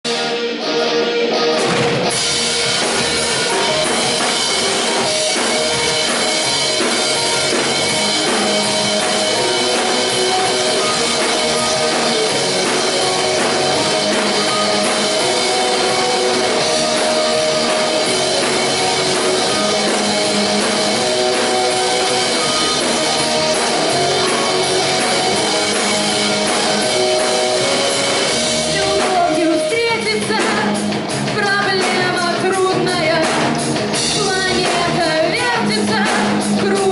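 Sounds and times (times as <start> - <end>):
bass guitar: 0.0 - 36.9
electric guitar: 0.0 - 36.9
drum kit: 1.2 - 36.9.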